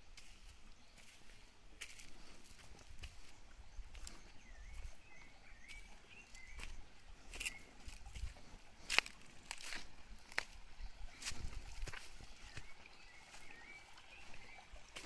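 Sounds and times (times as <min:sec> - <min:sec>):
small bird chirping: 0:01.8 - 0:15.0.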